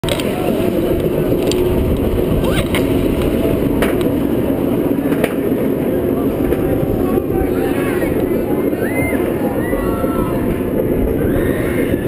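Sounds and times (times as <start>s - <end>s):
roller coaster lift rumble: 0.0s - 12.0s.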